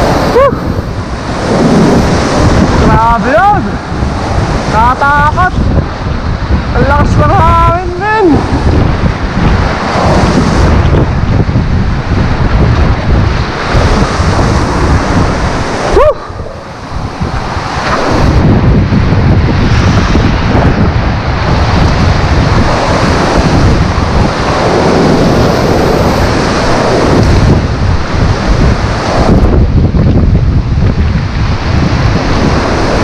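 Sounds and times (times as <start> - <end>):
surf breaking on shore: 0.0 - 33.0
wind buffeting microphone: 0.0 - 33.0.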